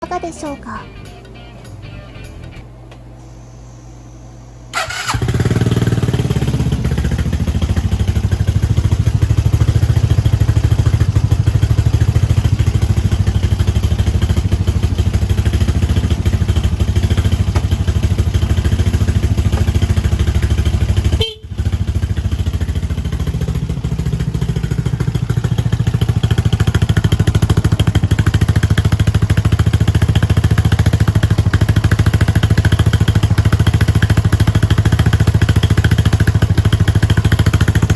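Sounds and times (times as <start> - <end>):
scooter engine idling: 4.7 - 37.9.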